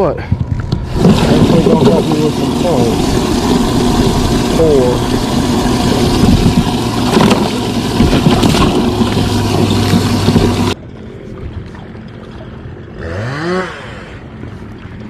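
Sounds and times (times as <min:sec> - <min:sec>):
wind and water noise: 0:00.0 - 0:15.0
outboard motor humming: 0:00.5 - 0:15.0.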